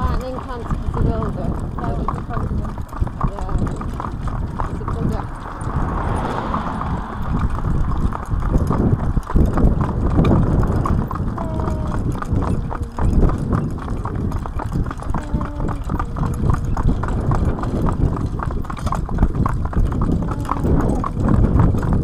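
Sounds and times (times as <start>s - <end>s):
continuous low rumble: 0.0s - 22.0s
horse hooves clip-clopping on road: 0.0s - 22.0s.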